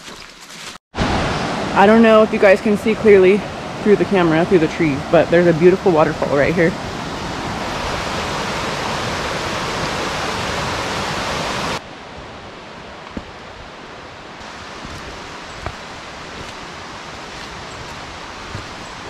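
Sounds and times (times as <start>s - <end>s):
small waterfall rushing: 1.0s - 19.0s.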